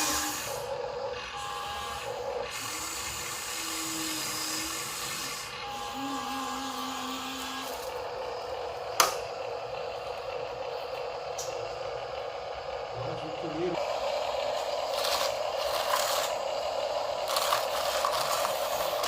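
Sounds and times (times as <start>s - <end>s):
toy truck motors whirring: 0.0s - 19.0s.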